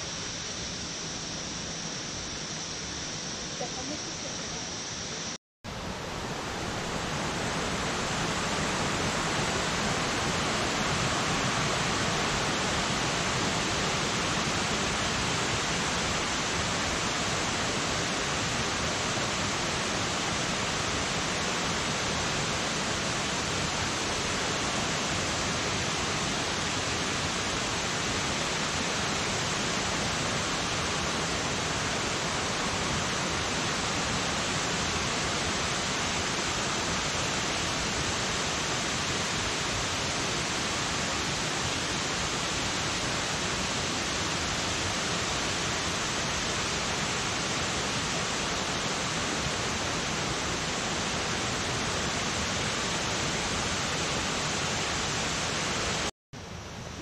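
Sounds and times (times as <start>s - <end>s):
waterfall rushing: 3.8s - 56.1s.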